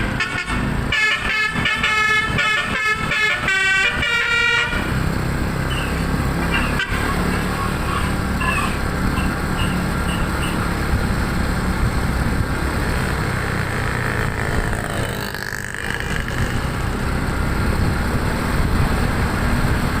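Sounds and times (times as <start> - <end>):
road noise: 0.0 - 20.0
vehicle engine: 0.0 - 20.0.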